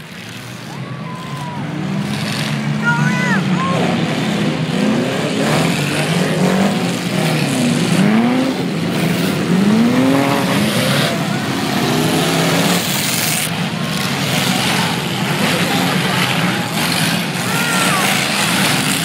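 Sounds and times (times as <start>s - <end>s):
race car engines revving: 0.0s - 19.0s.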